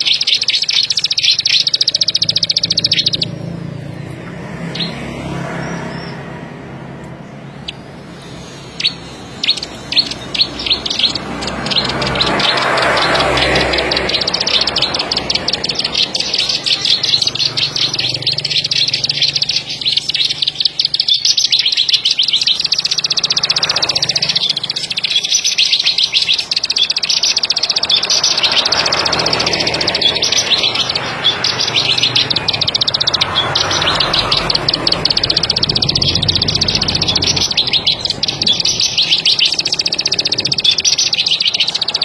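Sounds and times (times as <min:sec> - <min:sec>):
bird singing rapid ticking trill: 0:00.0 - 0:42.0.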